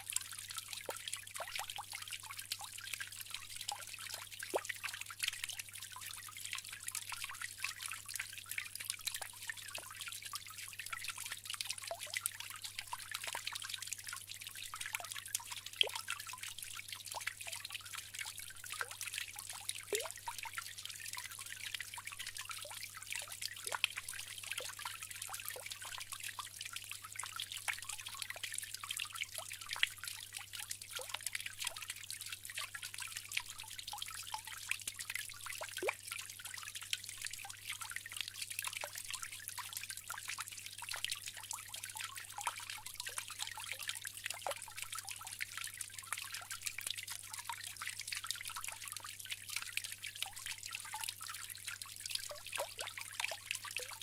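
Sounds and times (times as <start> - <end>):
bamboo water fountain trickling: 0.0 - 54.0
water drips and splashes: 0.0 - 54.0.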